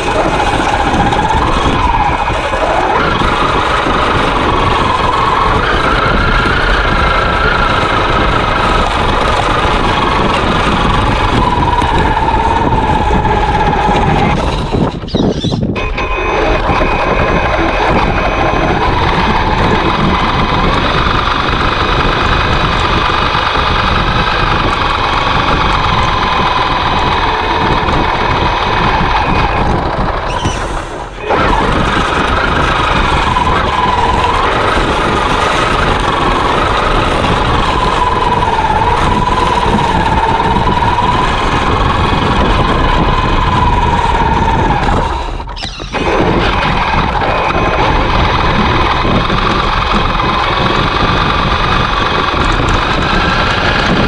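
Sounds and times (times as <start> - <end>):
rc truck electric motor whining: 0.0 - 54.0.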